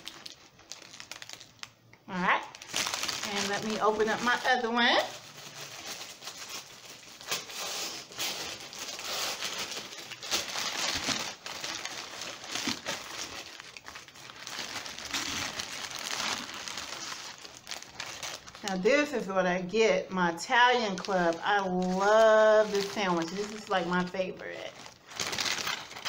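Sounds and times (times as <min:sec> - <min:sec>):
paper wrapper crinkling: 0:00.0 - 0:19.4, 0:20.6 - 0:26.0.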